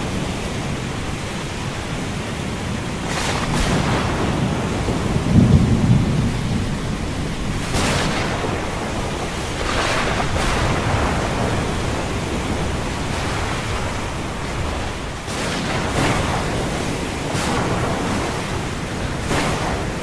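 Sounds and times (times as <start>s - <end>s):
ocean surf: 0.0s - 20.0s
thunder rumbling: 0.0s - 20.0s
waves washing in: 0.0s - 20.0s.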